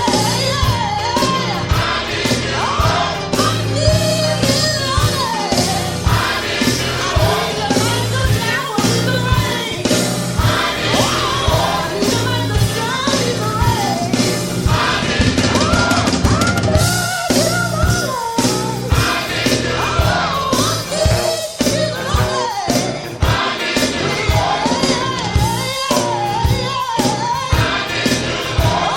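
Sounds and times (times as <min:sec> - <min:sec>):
choir singing: 0:00.0 - 0:28.9
drum beat and bass: 0:00.0 - 0:28.9.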